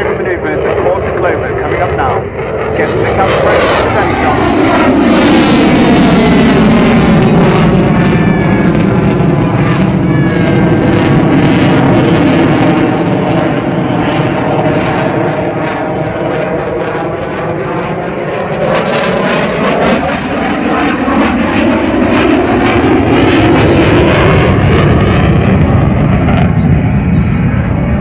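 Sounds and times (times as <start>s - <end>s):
jet engines roaring past: 0.0s - 28.0s.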